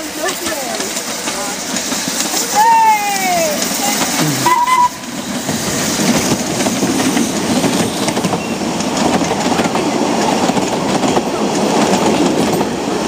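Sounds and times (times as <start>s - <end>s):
wheels clicking over rails: 0.0s - 12.9s
train carriages rumbling past: 0.0s - 13.0s.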